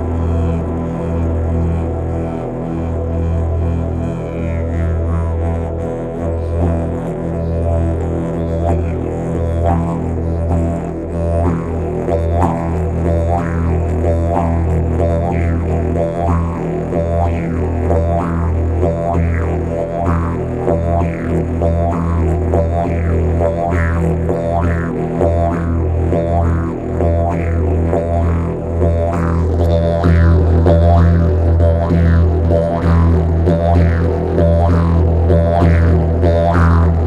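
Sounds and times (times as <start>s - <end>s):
didgeridoo drone: 0.0s - 37.0s.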